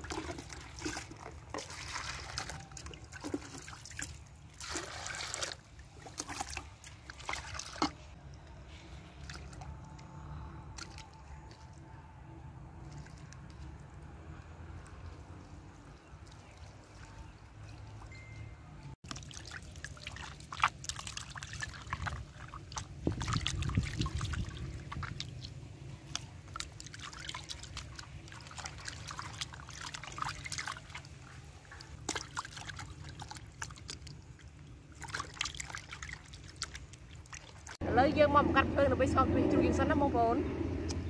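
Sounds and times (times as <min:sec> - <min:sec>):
water sloshing and squelching: 0:00.0 - 0:38.0.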